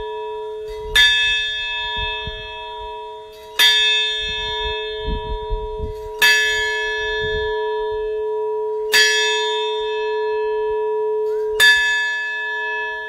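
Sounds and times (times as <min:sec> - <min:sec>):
large tower bell ringing: 0:00.0 - 0:13.0.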